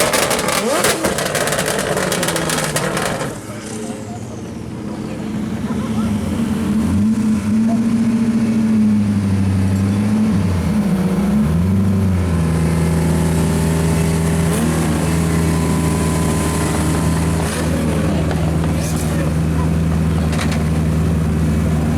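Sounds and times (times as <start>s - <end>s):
turbocharged car engine running: 0.0s - 4.1s, 5.6s - 21.9s.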